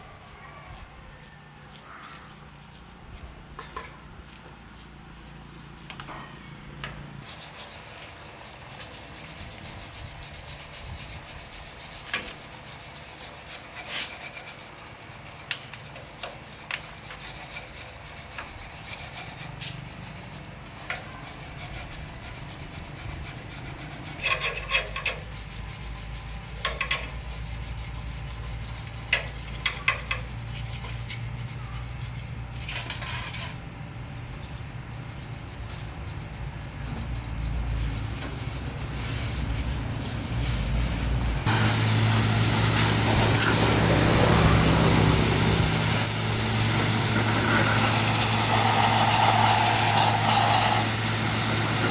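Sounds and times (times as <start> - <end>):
hand scraping a surface: 7.2 - 51.9.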